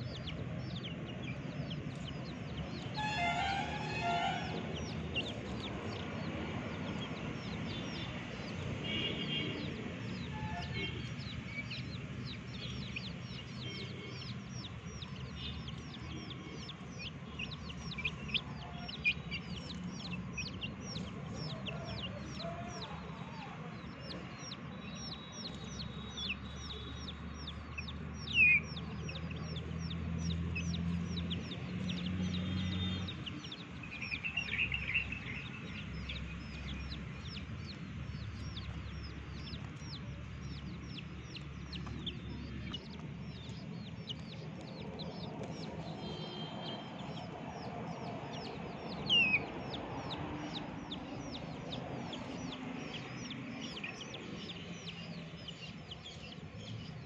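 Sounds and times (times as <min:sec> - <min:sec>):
young chickens peeping: 0:00.0 - 0:57.0.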